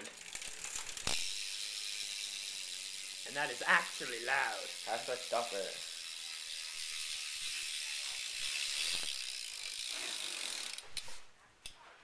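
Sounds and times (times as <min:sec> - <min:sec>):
bike hub freewheel clicking: 0:00.0 - 0:11.2.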